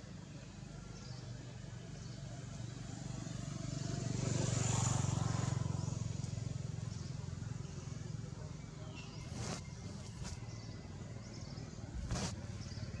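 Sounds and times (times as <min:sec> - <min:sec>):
vehicle passing by: 0:02.6 - 0:13.0.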